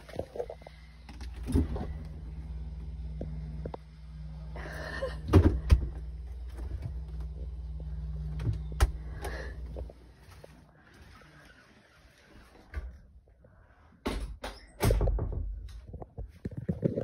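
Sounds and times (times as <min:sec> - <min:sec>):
refrigerator humming: 0:00.0 - 0:16.8.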